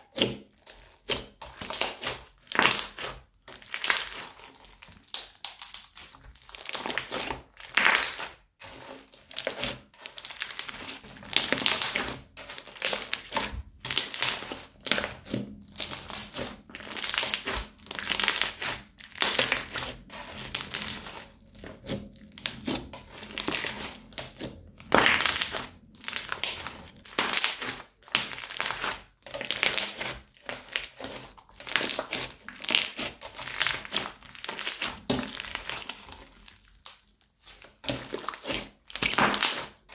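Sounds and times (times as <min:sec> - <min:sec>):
crunchy slime crackling: 0:00.1 - 0:39.9.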